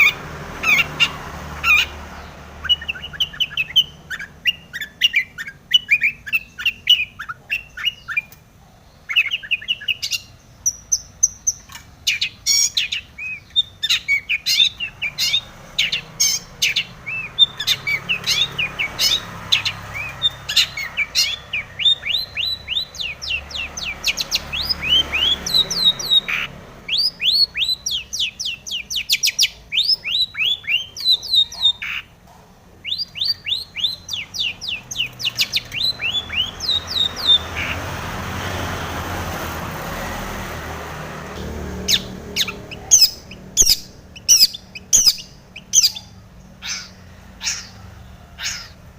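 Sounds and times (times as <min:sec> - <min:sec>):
shrike singing chirps and clicks: 0:00.1 - 0:08.5, 0:09.1 - 0:32.1, 0:32.8 - 0:37.8, 0:41.4 - 0:46.2.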